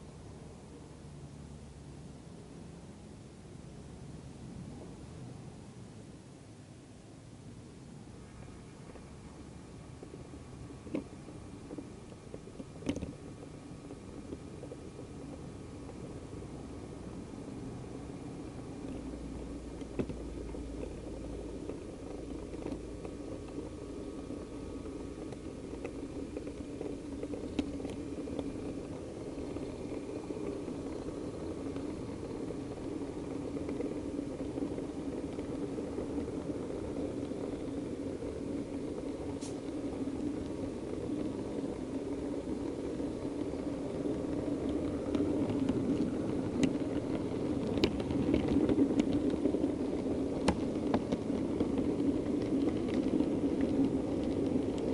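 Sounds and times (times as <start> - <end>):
model train motor and wheels: 0.0 - 54.9.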